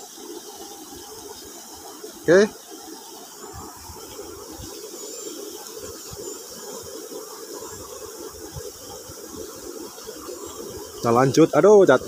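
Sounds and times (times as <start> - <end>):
rushing background hiss: 0.0 - 12.0.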